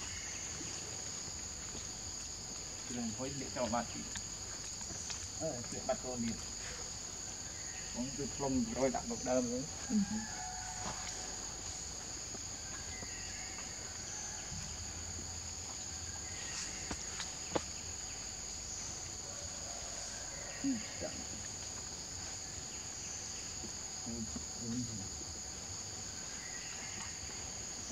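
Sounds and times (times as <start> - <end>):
insect chorus: 0.0 - 27.9.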